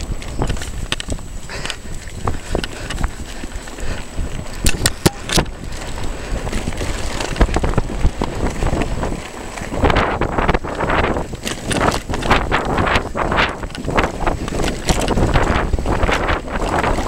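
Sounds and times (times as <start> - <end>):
tyres crunching on loose stones: 0.0 - 17.0
wind buffeting microphone: 0.0 - 17.0.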